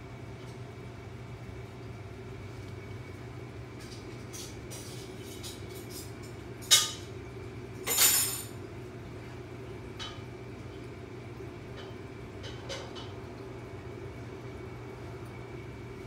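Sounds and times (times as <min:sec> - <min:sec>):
aquarium pumps humming: 0:00.0 - 0:16.0.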